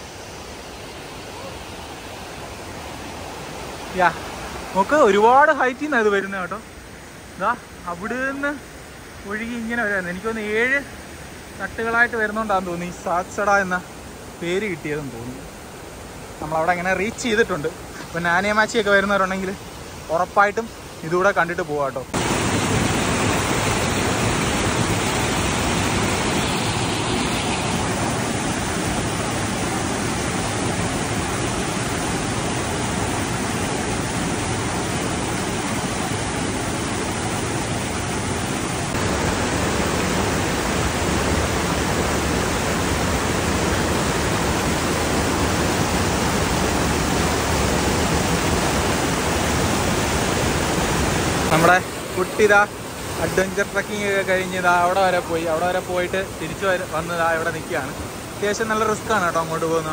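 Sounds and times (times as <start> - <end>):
stream rushing over boulders: 0.0 - 59.9.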